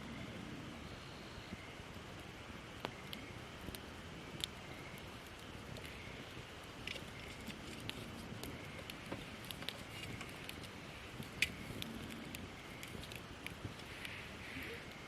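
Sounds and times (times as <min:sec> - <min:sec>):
campfire crackling: 0:00.0 - 0:15.0
fire popping and snapping: 0:00.0 - 0:15.0
soft steady fire hiss: 0:00.0 - 0:15.0.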